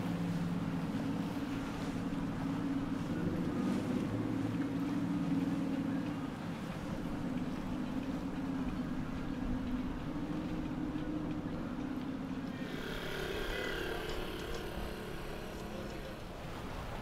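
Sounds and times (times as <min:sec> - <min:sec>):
boat engines droning: 0:00.0 - 0:17.0
outboard motor whine: 0:00.0 - 0:17.0
water splashing against hull: 0:00.0 - 0:17.0.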